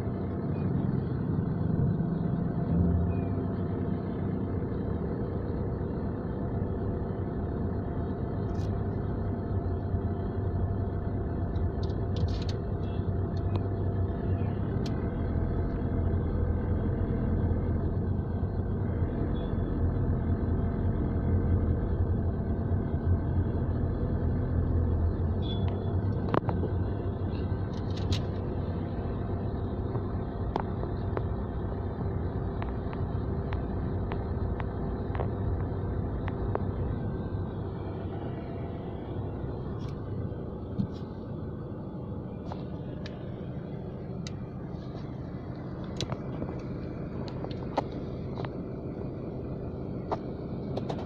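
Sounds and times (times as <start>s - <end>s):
vehicle road and engine rumble: 0.0s - 51.0s.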